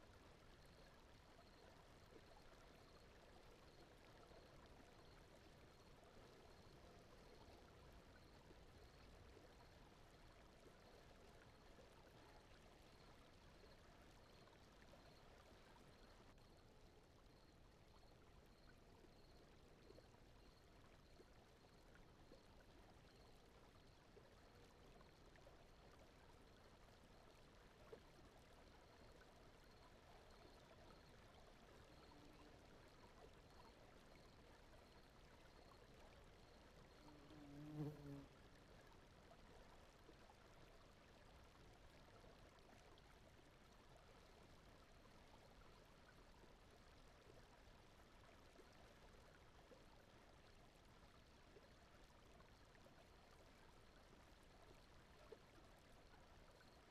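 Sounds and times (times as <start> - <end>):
faint brown noise: 0.0 - 56.9.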